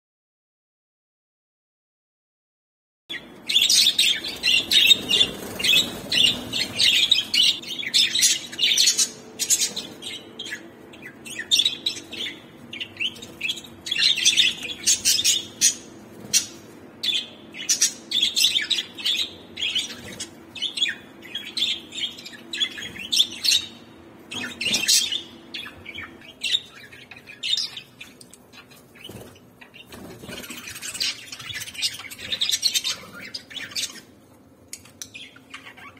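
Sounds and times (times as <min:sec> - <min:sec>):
budgerigars chirping: 0:03.1 - 0:34.1, 0:34.7 - 0:35.9.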